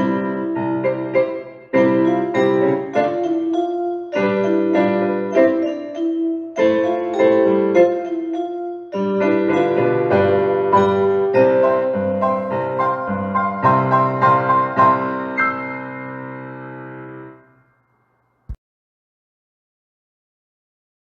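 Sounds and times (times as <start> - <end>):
piano accompaniment: 0.0 - 17.6.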